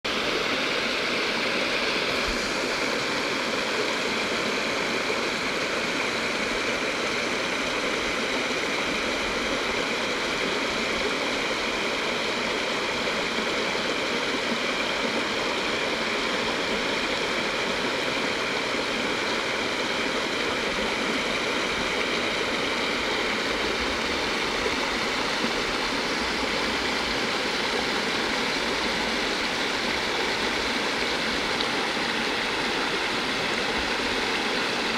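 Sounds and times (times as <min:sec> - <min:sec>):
stream rushing and splashing: 0:00.1 - 0:34.9.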